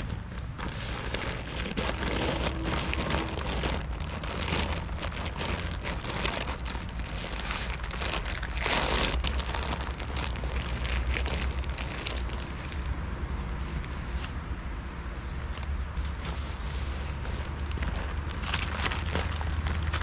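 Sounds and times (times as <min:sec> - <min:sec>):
tent fabric rustling and crinkling: 0:00.0 - 0:14.6, 0:15.2 - 0:20.0
wind rumbling on microphone: 0:00.0 - 0:20.0.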